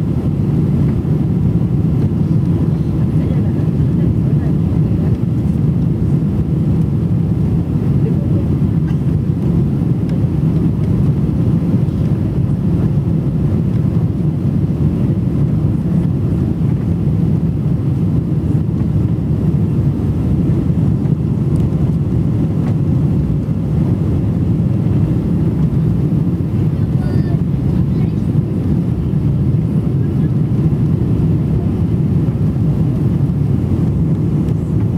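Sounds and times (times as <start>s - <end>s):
airplane cabin low rumble: 0.0s - 34.9s.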